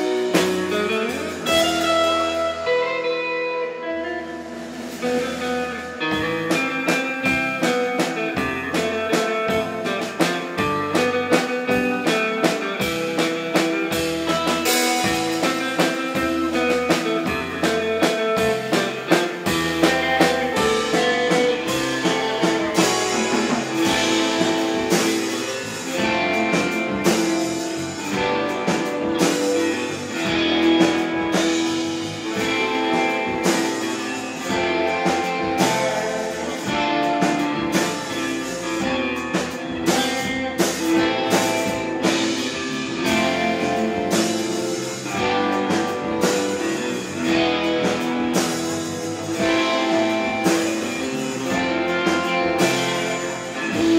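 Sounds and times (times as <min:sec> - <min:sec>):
drum kit beat: 0:00.0 - 0:53.9
electric guitar melody: 0:00.0 - 0:53.9
low bass notes: 0:03.9 - 0:53.9.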